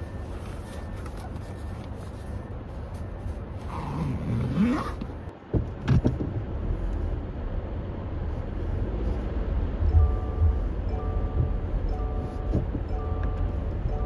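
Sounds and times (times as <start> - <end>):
car rumble inside cabin: 0.0 - 14.0.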